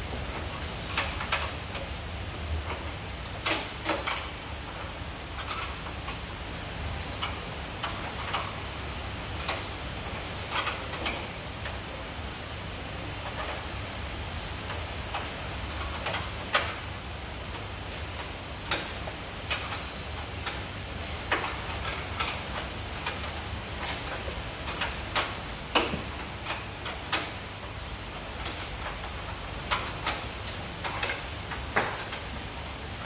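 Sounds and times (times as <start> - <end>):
washing machine hum: 0.0 - 33.0.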